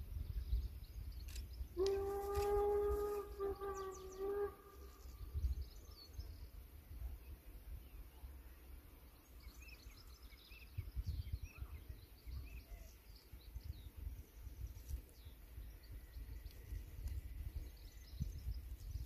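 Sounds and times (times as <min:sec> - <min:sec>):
small birds chirping: 0:00.0 - 0:01.8, 0:03.7 - 0:19.0
wind buffeting microphone: 0:00.0 - 0:06.7, 0:09.9 - 0:19.0.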